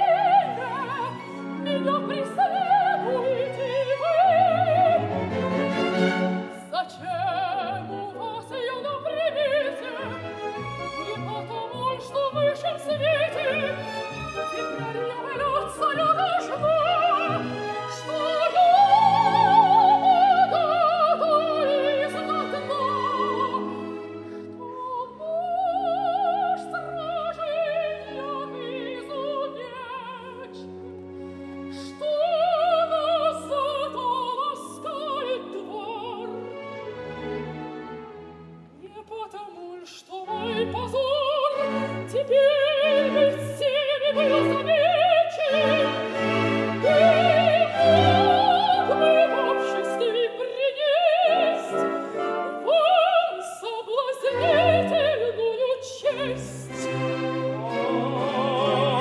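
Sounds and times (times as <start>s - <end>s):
operatic soprano singing: 0.0s - 31.0s, 31.6s - 37.8s, 38.7s - 59.0s
orchestral accompaniment: 0.0s - 59.0s.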